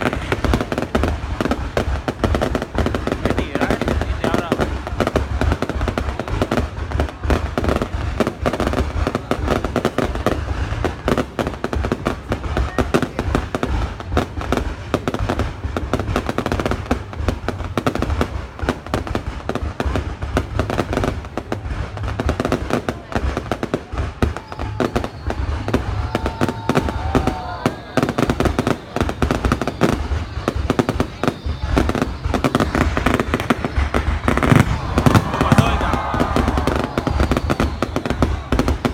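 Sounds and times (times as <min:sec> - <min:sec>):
deep fireworks booms: 0:00.0 - 0:38.9
fireworks bangs and crackles: 0:00.0 - 0:38.9.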